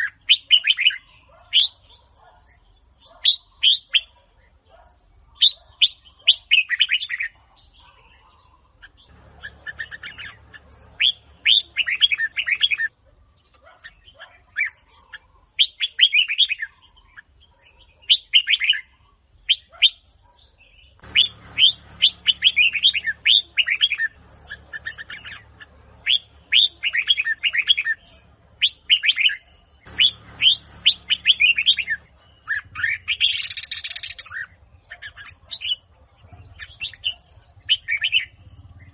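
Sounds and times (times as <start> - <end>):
bird singing whistled notes: 0.0 - 4.2, 5.3 - 8.3, 8.9 - 14.9, 15.6 - 38.9.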